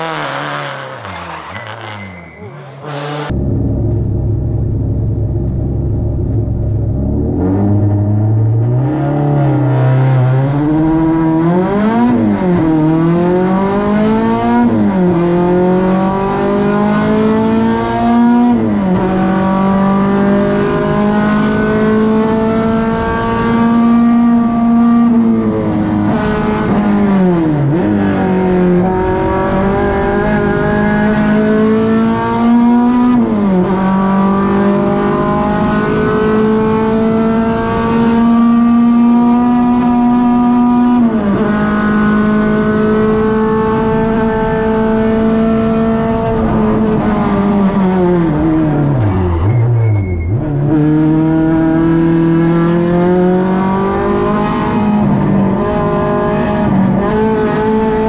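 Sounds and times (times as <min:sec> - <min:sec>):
race car engine accelerating: 0:00.0 - 0:49.5, 0:50.3 - 0:58.0.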